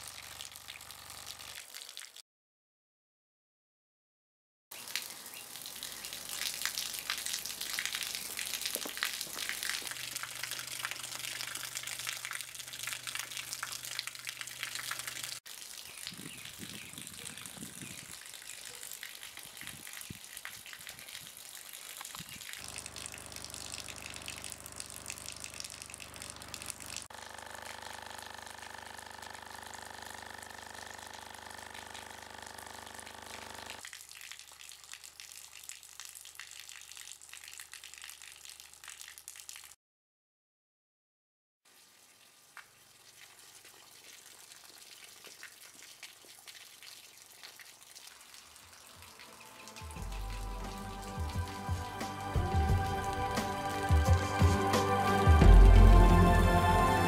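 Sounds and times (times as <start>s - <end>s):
water pouring and splashing: 0.0s - 2.2s, 4.7s - 27.1s, 29.4s - 39.8s, 41.7s - 53.9s.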